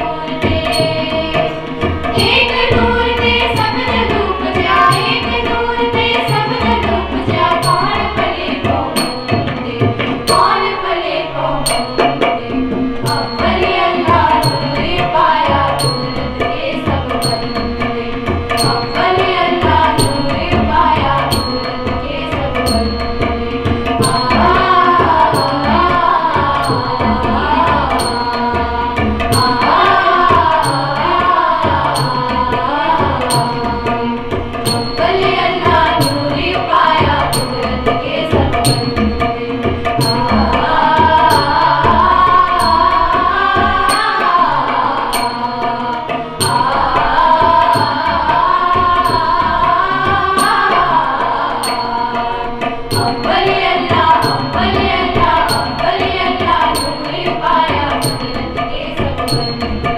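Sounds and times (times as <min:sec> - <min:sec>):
tabla: 0:00.0 - 0:59.9
voices singing a hymn: 0:00.0 - 0:59.9.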